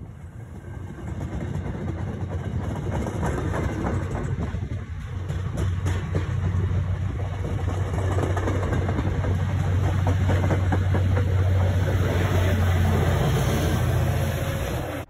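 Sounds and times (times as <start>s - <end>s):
diesel locomotive humming: 0.0s - 15.0s
train clicking: 0.0s - 15.0s.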